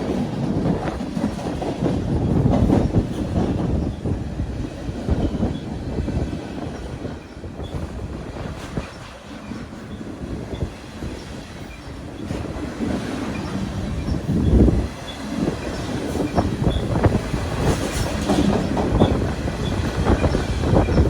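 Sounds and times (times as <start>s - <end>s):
train wheels rumbling and clattering: 0.0s - 21.0s.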